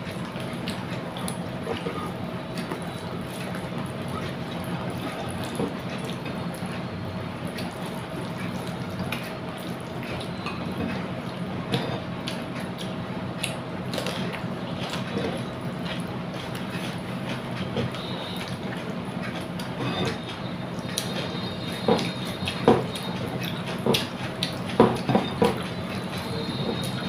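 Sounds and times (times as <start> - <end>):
person chewing and smacking: 0.0 - 27.0.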